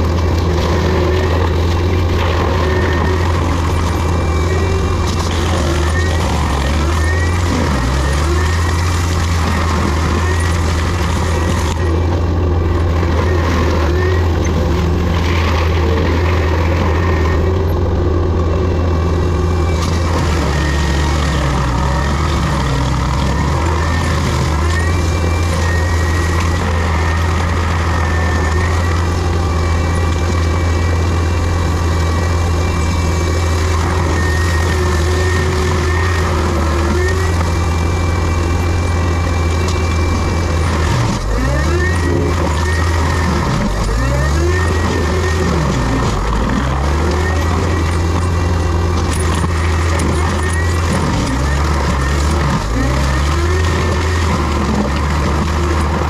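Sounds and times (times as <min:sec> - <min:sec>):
heavy diesel engine under load: 0:00.0 - 0:56.0
high hydraulic whine: 0:00.0 - 0:56.0.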